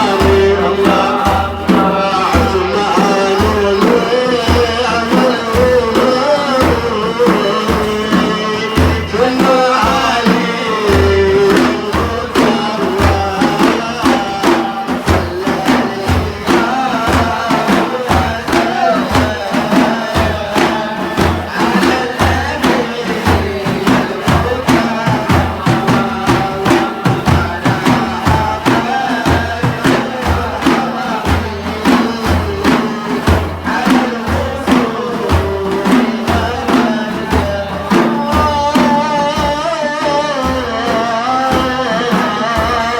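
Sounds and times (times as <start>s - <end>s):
frame drums beating: 0.0s - 42.9s
voices singing and chanting: 0.0s - 42.9s.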